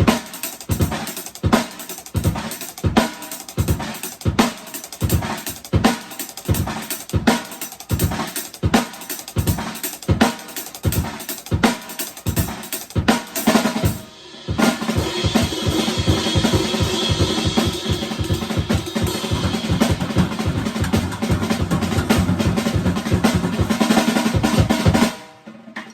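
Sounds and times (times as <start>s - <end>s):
drum kit playing: 0.0s - 25.9s.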